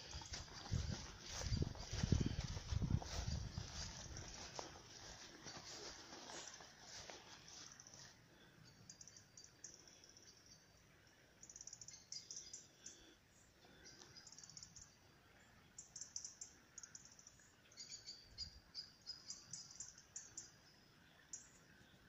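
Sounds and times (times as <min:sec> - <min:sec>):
faint background noise: 0:00.0 - 0:22.0
songbirds chirping trills: 0:00.0 - 0:22.0.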